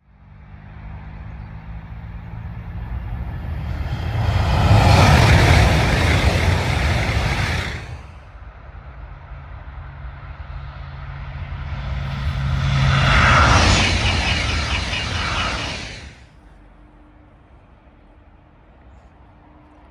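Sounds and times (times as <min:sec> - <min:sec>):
train passing at speed: 0:01.4 - 0:19.9.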